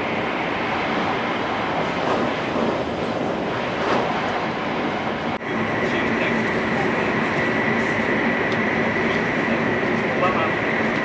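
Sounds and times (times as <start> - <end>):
high-speed train cabin noise: 0.0 - 11.0.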